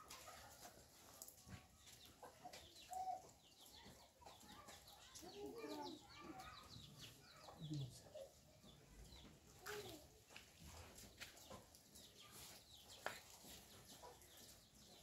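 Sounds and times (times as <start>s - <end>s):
faint chickens clucking: 0.1s - 15.0s.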